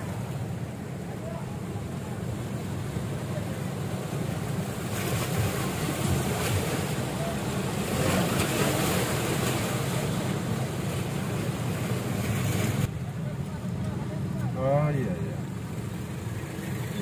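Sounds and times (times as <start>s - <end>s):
floodwater rushing around car: 0.0s - 17.0s
low engine hum: 0.0s - 17.0s.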